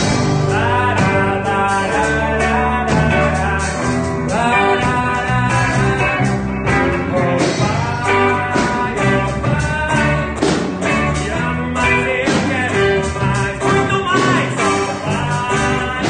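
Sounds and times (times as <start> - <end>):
electric guitar: 0.0 - 16.0
person singing: 0.0 - 16.0
steady drum beat: 0.0 - 16.0.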